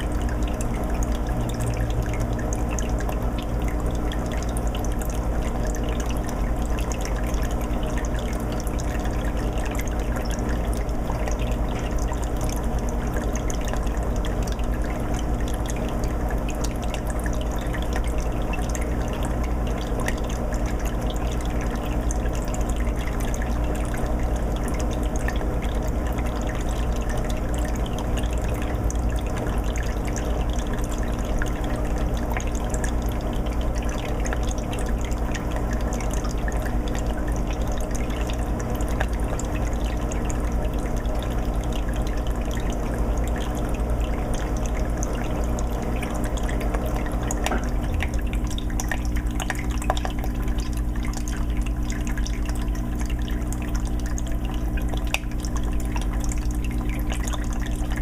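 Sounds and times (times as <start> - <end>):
low steady hum: 0.0 - 58.0
water splashing and trickling: 0.0 - 58.0.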